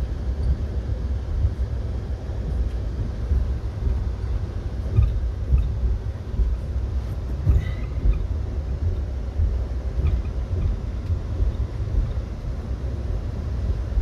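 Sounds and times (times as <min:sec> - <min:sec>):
train coach rumble: 0:00.0 - 0:14.0.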